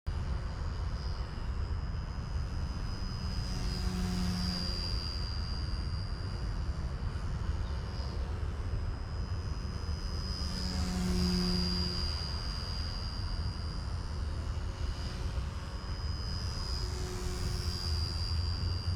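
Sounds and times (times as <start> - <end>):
rc helicopter rotor whine: 0.1 - 18.9.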